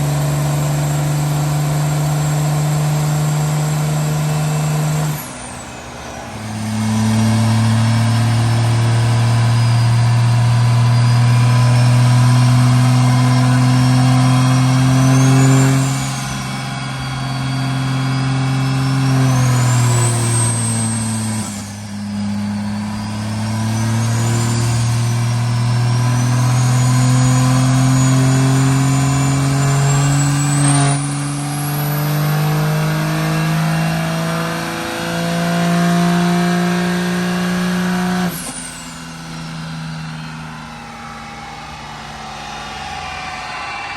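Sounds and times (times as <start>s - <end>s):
thin high whistle: 0.0s - 43.9s
truck engine running hard: 0.0s - 43.9s.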